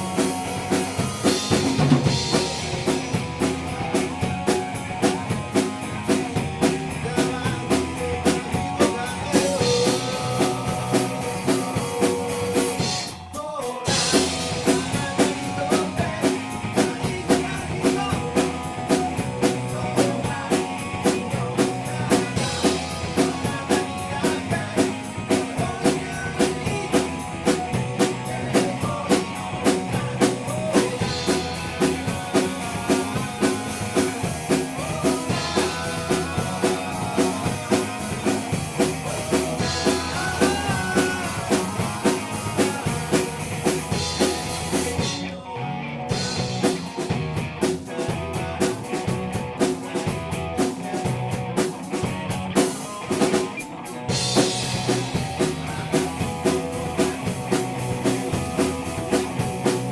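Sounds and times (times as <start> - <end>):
driving drum beat: 0.0 - 45.5, 46.1 - 59.9
bass guitar: 0.0 - 59.9
live rock band playing: 0.0 - 59.9.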